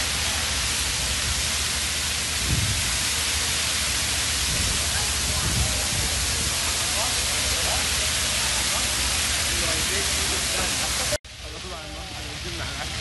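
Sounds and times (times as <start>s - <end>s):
low rumbles: 0.0s - 11.4s
fountain water jets splashing: 0.0s - 13.0s.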